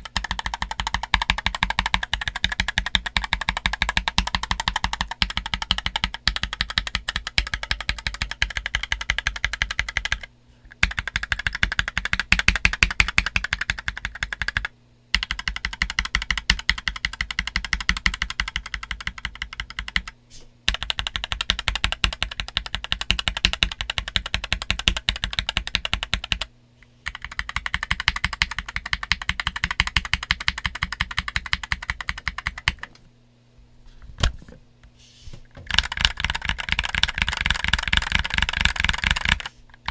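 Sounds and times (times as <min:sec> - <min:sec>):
fast typing on mechanical keyboard: 0:00.0 - 0:33.0, 0:35.6 - 0:39.9.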